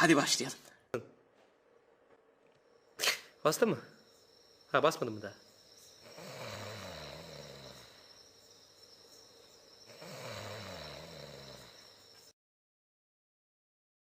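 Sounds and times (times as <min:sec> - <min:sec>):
faint steady hiss: 0:00.0 - 0:12.3.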